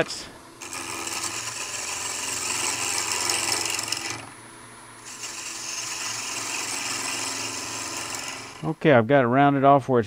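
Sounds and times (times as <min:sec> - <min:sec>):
hiss of wood shaving: 0:00.0 - 0:04.4, 0:05.0 - 0:08.8
lathe low hum: 0:00.0 - 0:08.9.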